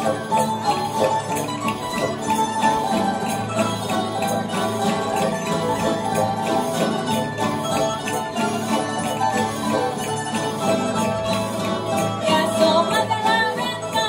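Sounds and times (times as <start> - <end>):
folk band with acoustic guitars: 0.0 - 14.0.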